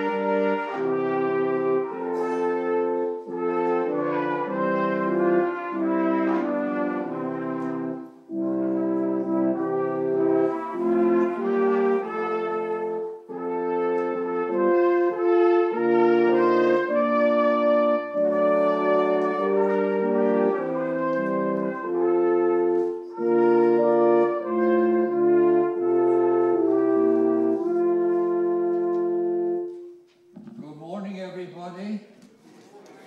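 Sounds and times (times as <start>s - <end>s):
electronic keyboard accompaniment: 0.0s - 30.6s
trumpets playing in harmony: 0.0s - 31.4s.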